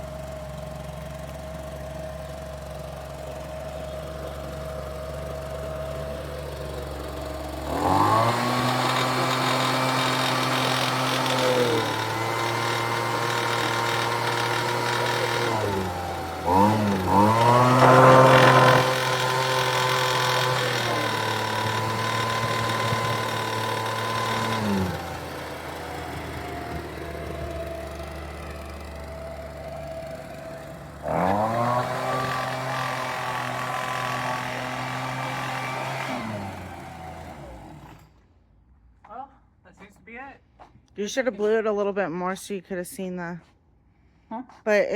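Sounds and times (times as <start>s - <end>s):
leaf blower engine revving: 0.0s - 38.2s.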